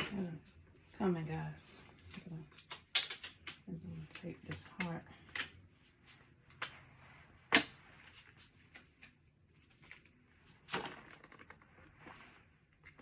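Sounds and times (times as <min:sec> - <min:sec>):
rustling of craft items: 0:00.0 - 0:13.0.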